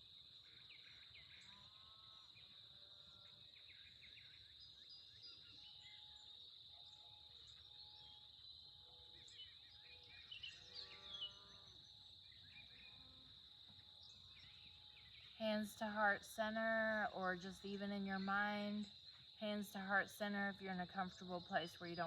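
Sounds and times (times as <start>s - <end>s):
high-pitched insect drone: 0.0s - 19.8s.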